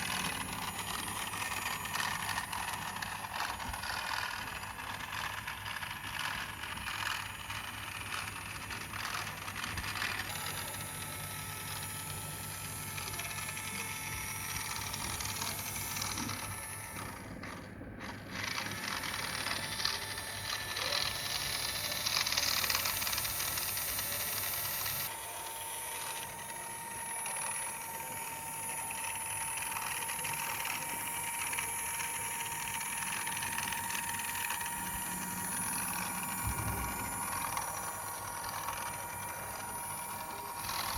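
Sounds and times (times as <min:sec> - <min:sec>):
toy car motor whirring: 0:00.0 - 0:40.9.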